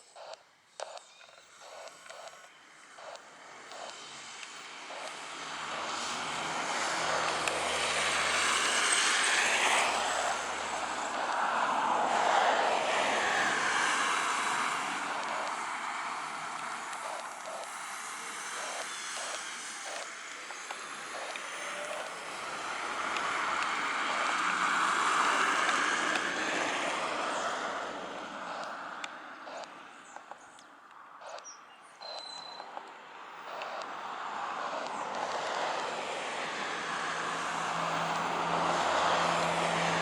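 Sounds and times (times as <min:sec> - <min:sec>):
jet engines roaring: 0:01.6 - 0:30.4, 0:32.7 - 0:40.0.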